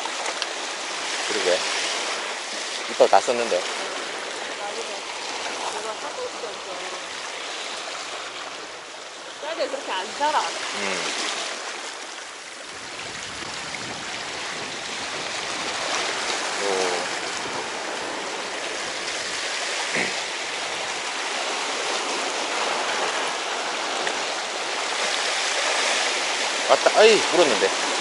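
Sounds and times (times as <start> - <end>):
waves splashing against rocks: 0.0 - 28.0.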